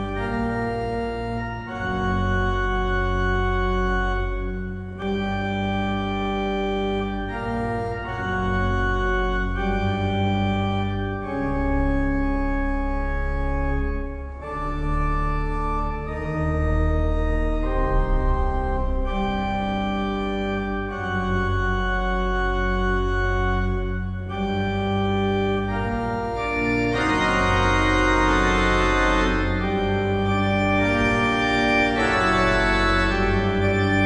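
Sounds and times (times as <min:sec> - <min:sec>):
pipe organ playing chords: 0:00.0 - 0:34.0.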